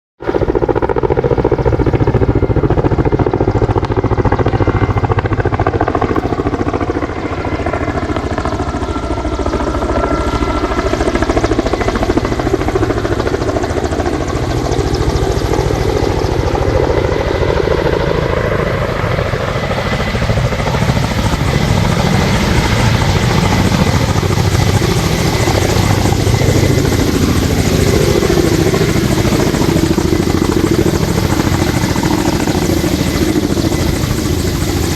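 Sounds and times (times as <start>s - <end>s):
helicopter rotor beat: 0.2s - 34.9s.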